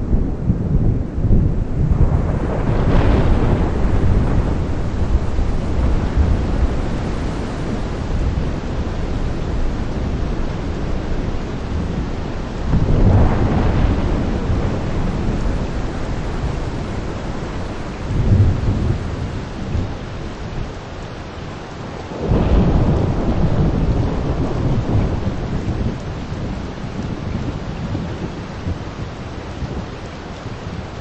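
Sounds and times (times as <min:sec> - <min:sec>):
steady downpour of rain: 0:00.0 - 0:31.0
thunder rumbling: 0:00.0 - 0:31.0.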